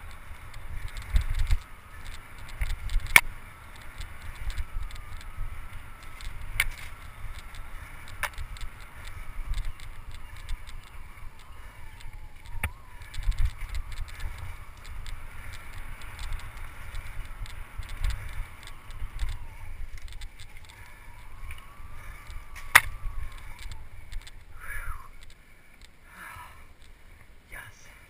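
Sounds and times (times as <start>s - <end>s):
bike rattles and clicks: 0.0s - 27.4s
low wind buffeting: 0.0s - 27.6s.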